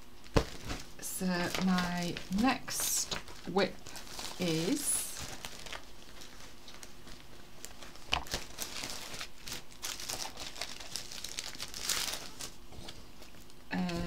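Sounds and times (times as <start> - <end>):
paper crinkling and rustling: 0.2 - 14.0.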